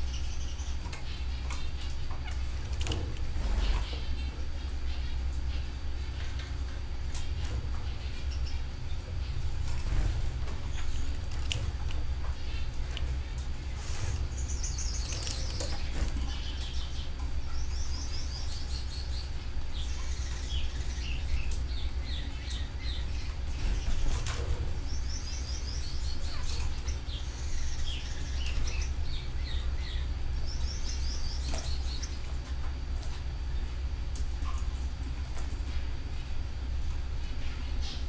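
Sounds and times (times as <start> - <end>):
canaries singing trills: 0.0 - 38.0
steady low hum: 0.0 - 38.0.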